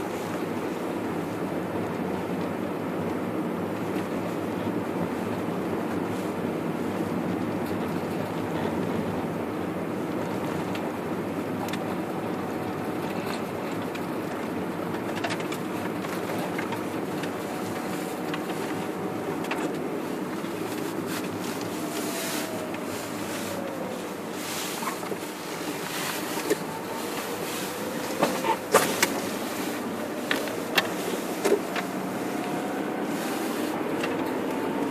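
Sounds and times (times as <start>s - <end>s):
car tyres and engine hum: 0.0s - 34.9s.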